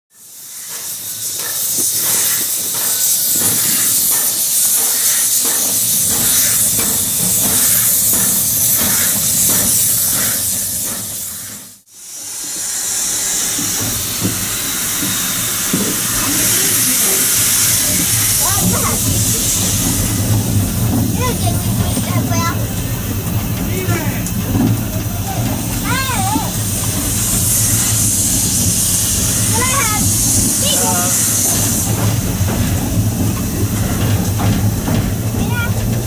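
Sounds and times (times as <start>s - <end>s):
steam locomotive hissing: 0.1s - 36.0s.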